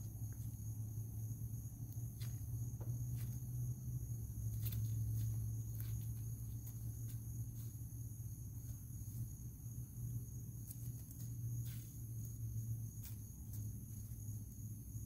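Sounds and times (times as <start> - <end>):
crickets chirring: 0.0 - 15.0
kitten pawing on concrete: 0.0 - 15.0
low steady hum: 0.0 - 15.0.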